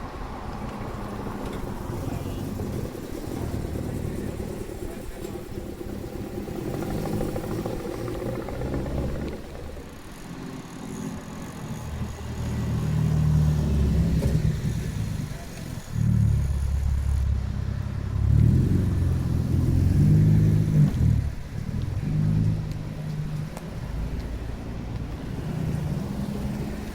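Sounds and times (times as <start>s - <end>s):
cars driving slowly past: 0.0s - 26.9s.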